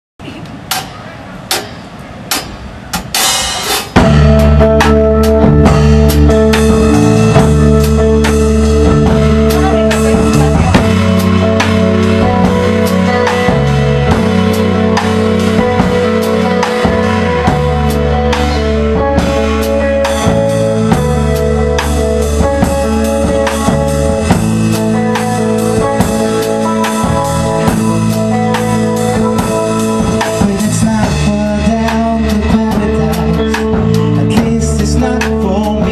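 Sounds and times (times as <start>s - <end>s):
live rock band playing: 0.5s - 35.9s.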